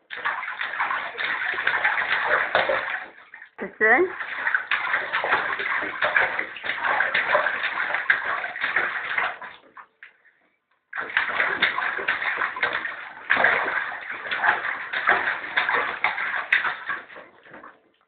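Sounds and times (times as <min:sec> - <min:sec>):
child splashing bathwater: 0:00.0 - 0:10.2, 0:10.9 - 0:18.0.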